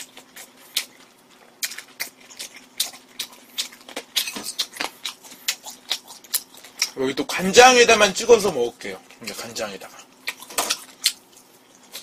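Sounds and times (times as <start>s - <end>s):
wet chewing and smacking: 0.0s - 7.1s, 9.0s - 12.0s.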